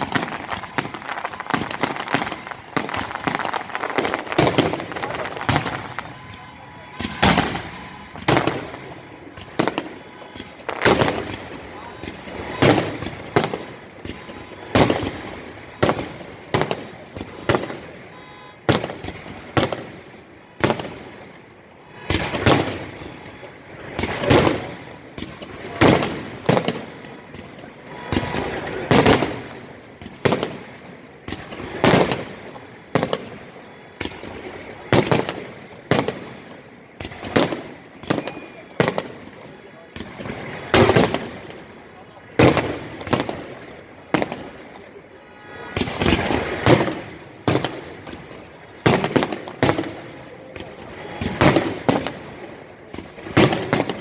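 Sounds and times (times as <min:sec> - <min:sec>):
fireworks bangs with rumbling echo: 0:00.0 - 0:54.0.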